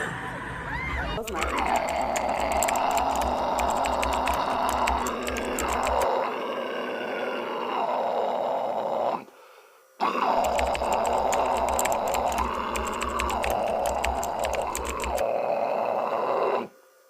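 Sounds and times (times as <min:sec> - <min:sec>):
harsh raspy fry scream: 0:00.0 - 0:08.2, 0:10.0 - 0:16.7.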